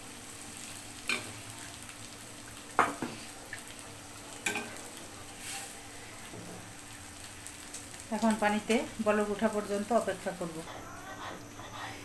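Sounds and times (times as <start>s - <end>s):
cooking pot hiss: 0.0s - 12.0s.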